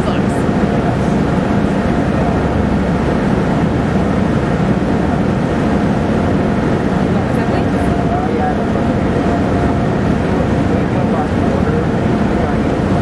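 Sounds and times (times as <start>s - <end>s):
ship engine deep rumble: 0.0s - 13.0s.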